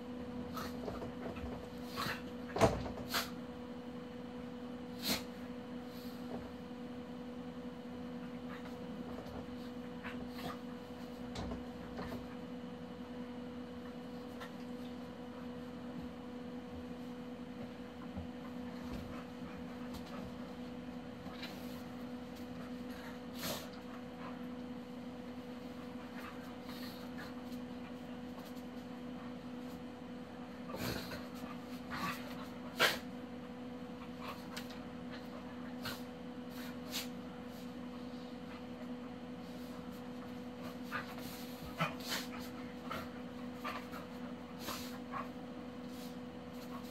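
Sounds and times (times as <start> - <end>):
electrical hum: 0.0 - 46.9
dogs scuffling and huffing: 0.1 - 46.9.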